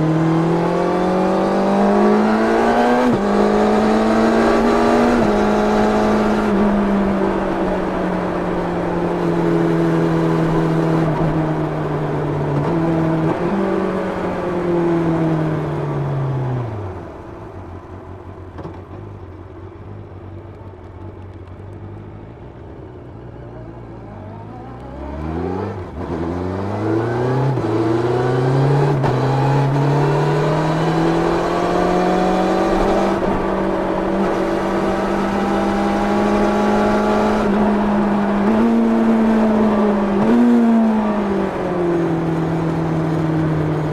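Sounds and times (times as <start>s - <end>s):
motorcycle engine revving: 0.0s - 15.7s, 24.1s - 43.9s.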